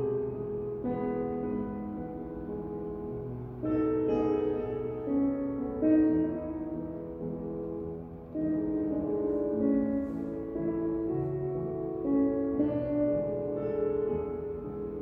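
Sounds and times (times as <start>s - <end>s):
slow classical instrumental music: 0.0s - 15.0s.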